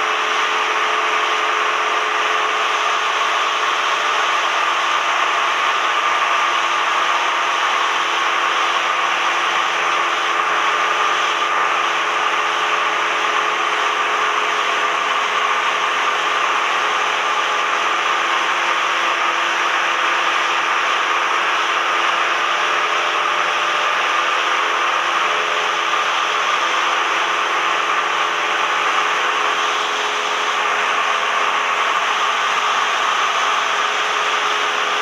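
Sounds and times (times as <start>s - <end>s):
propeller plane engine drone: 0.0s - 35.0s.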